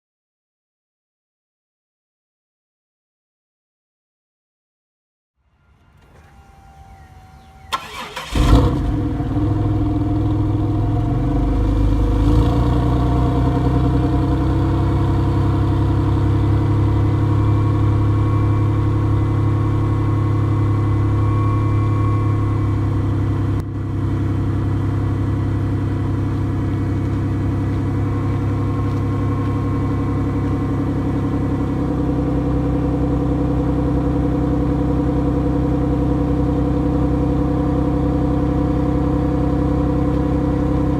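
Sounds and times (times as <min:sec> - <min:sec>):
car engine starting and idling: 0:05.4 - 0:40.9.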